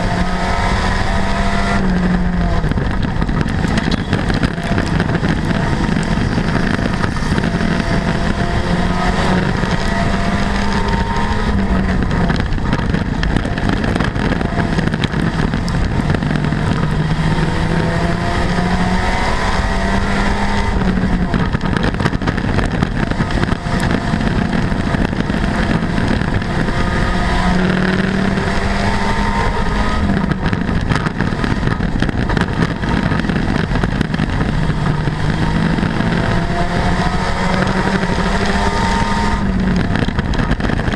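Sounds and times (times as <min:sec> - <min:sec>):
car rattling on dirt: 0:00.0 - 0:40.9
race car engine revving: 0:00.0 - 0:40.9.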